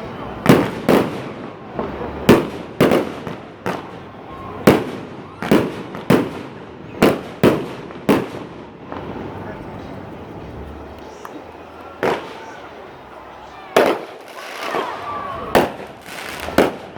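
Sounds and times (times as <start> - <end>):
fireworks bursting: 0.0 - 10.4, 11.0 - 16.9.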